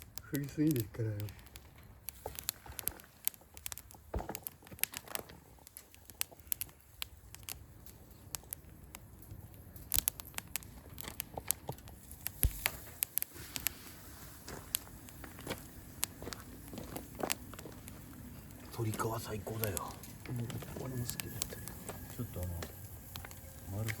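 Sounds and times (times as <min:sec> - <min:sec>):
wood bonfire crackling: 0:00.0 - 0:24.0.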